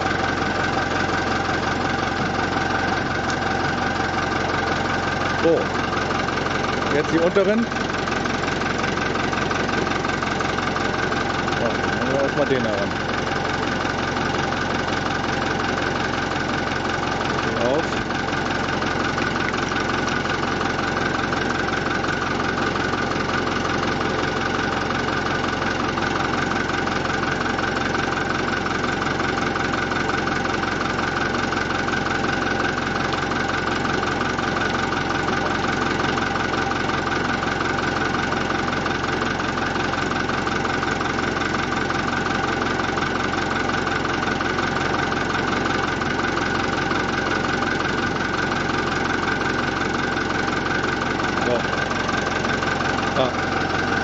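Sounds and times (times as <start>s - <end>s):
diesel tractor engine idling: 0.0s - 54.0s.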